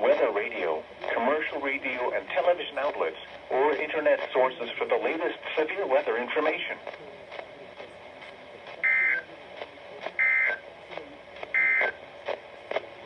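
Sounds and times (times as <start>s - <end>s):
faint radio hiss: 0.0s - 13.0s.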